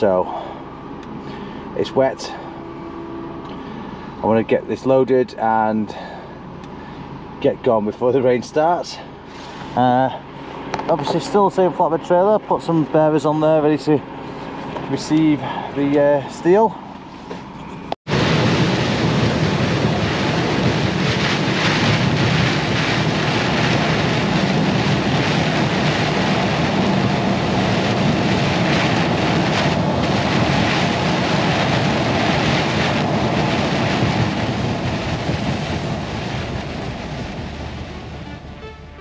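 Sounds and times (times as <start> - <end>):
lorry engine and tyres rumbling: 0.0 - 39.0.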